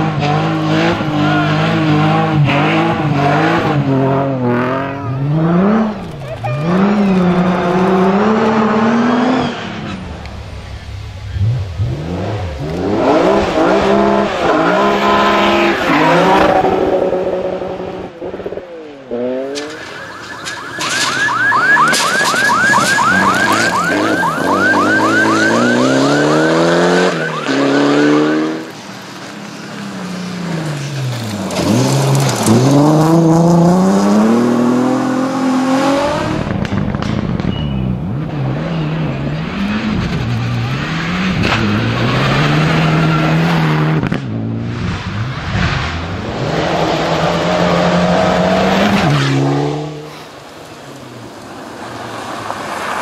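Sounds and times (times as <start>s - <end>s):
rally cars revving past: 0.0s - 53.0s.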